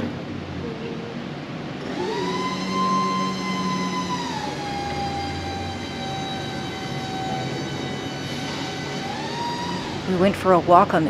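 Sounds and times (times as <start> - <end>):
hydraulic pump whining: 0.0 - 11.0
low hum: 0.0 - 11.0.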